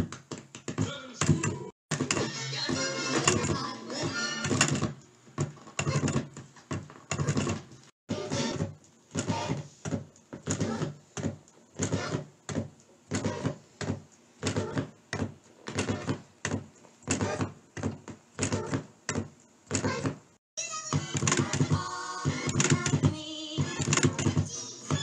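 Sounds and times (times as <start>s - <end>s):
looping record knocking bursts: 0.0s - 25.0s.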